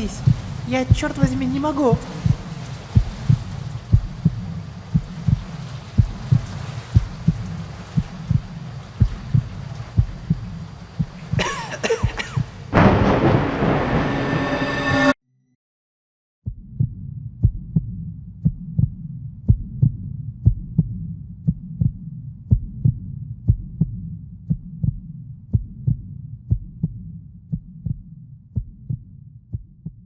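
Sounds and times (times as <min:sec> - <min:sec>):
heartbeat thumps: 0:00.0 - 0:14.7, 0:16.5 - 0:30.0.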